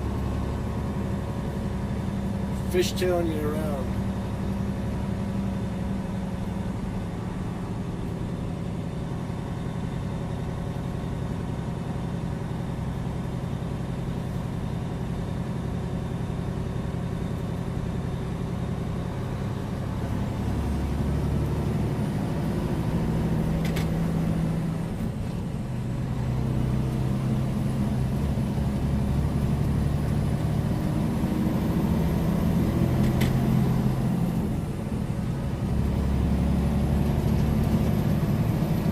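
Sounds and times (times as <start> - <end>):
truck diesel engine drone: 0.0 - 38.9.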